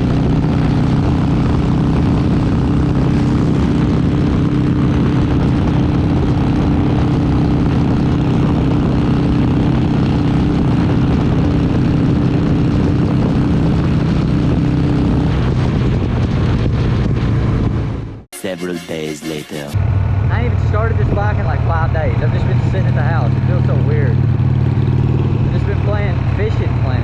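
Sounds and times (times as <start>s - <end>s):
motorcycle engine cruising: 0.0s - 18.3s, 19.8s - 27.0s.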